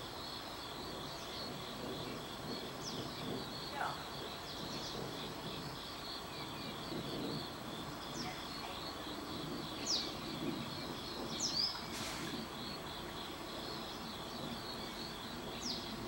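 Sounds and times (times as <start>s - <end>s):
pulsing insect chorus: 0.0s - 16.0s.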